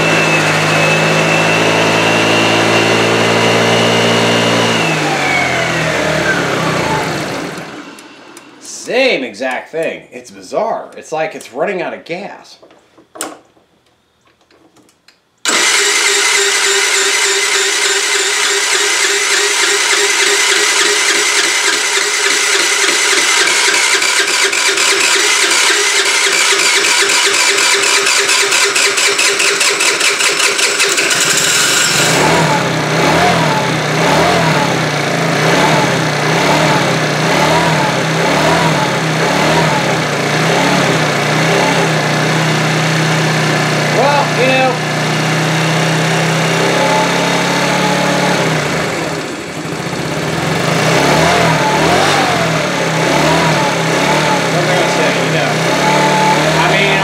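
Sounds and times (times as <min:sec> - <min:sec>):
scooter engine running: 0:00.0 - 0:08.6, 0:15.4 - 0:57.0.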